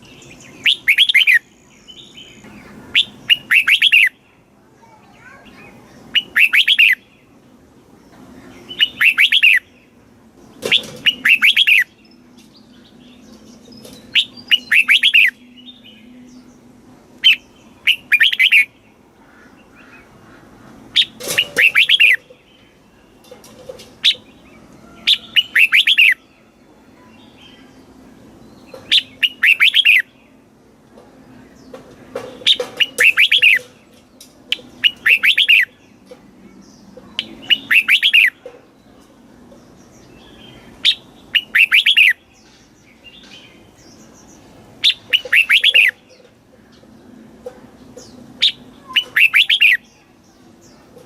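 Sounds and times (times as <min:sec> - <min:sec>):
bird singing: 0:00.0 - 0:51.0.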